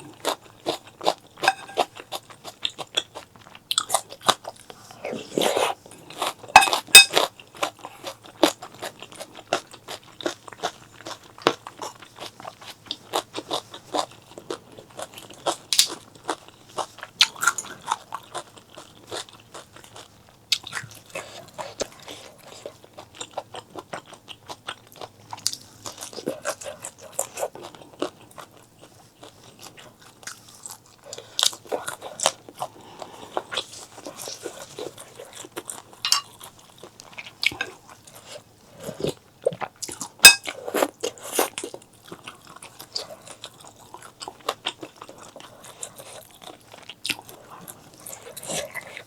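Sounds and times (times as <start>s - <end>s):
person chewing crunchy food: 0.0s - 49.0s.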